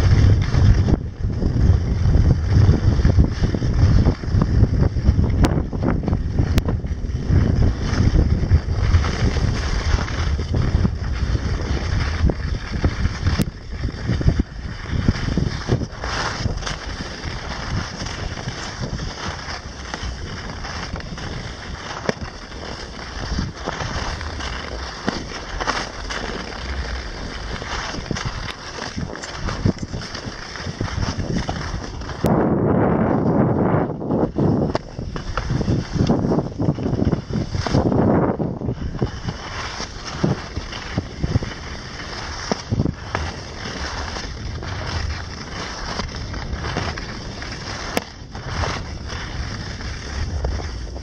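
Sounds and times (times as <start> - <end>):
skis scraping over snow: 0.0 - 51.0
wind buffeting microphone: 0.0 - 51.0.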